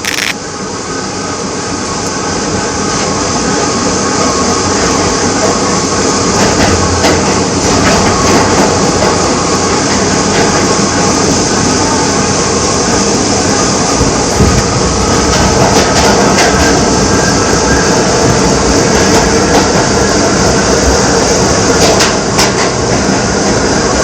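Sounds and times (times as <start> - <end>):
subway train wheel and track noise: 0.0 - 24.0.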